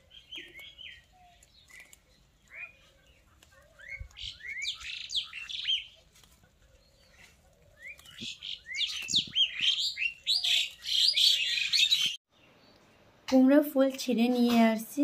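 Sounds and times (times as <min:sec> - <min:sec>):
birds chirping: 0:00.0 - 0:13.6.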